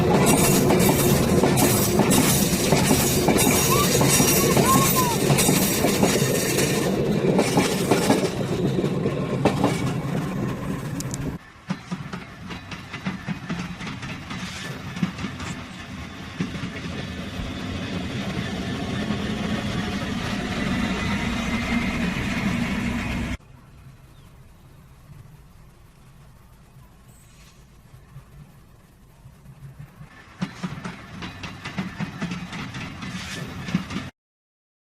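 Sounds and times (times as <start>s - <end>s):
steady rumble with clicks: 0.0s - 18.4s, 19.0s - 34.1s
train wheels clattering on rails: 0.0s - 23.4s, 27.1s - 34.1s.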